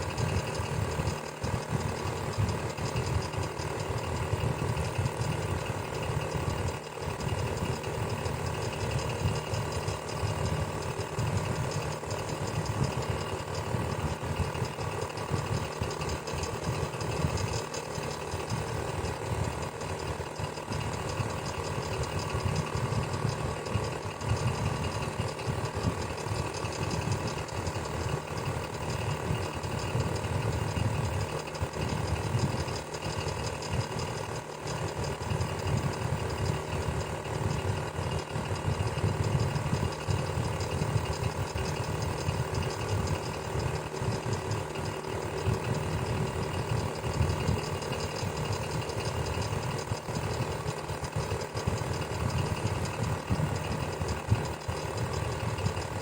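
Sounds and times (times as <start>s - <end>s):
electric fan running: 0.0s - 56.0s.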